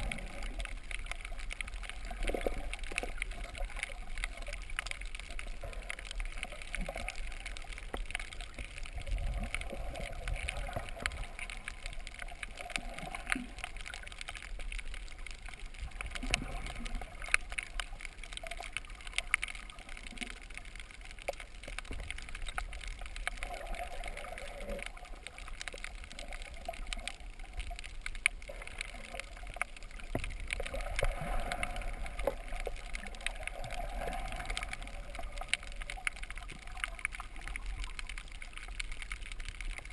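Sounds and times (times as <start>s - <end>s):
muffled underwater water wash: 0.0s - 39.9s
sharp clicks and crackles: 0.0s - 39.9s.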